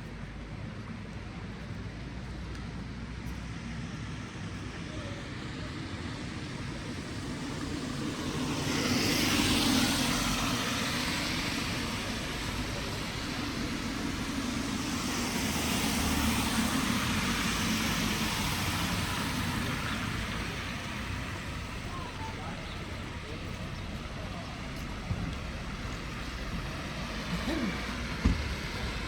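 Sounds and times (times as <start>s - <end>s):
vehicles passing on wet road: 0.0s - 29.0s.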